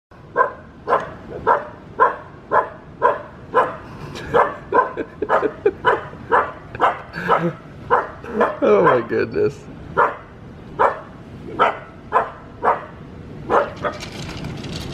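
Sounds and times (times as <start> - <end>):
puppy barking: 0.3 - 9.1, 10.0 - 14.1.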